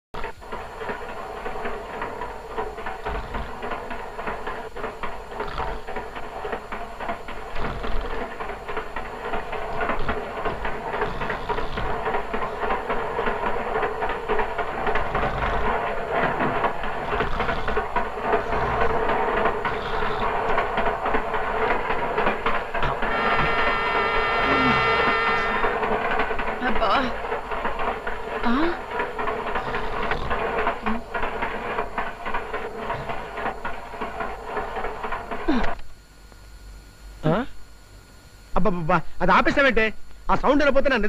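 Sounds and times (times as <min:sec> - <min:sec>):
train rumbling: 0:00.2 - 0:35.8
wheels clacking over rail joints: 0:00.2 - 0:35.8.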